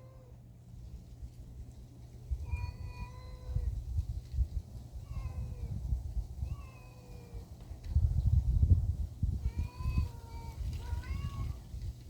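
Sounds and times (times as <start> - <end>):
steady low rumble: 0.0 - 6.6, 7.2 - 12.0.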